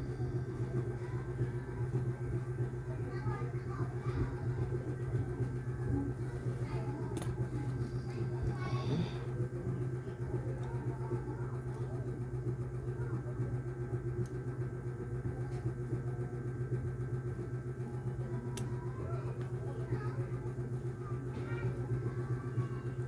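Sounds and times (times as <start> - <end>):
faint voices: 0.0 - 23.0
low mechanical hum: 0.0 - 23.0.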